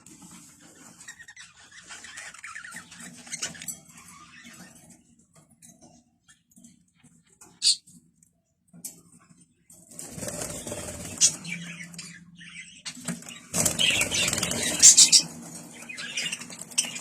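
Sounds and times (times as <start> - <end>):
small birds chirping: 0.4 - 8.0, 9.5 - 17.0.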